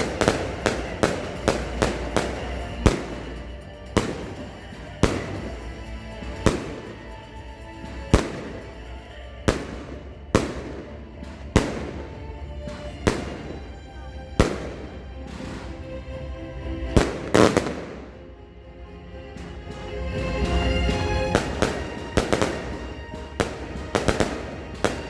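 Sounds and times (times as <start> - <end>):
firework aerial bursts: 0.0 - 18.2, 19.7 - 25.0
background music: 0.0 - 25.0.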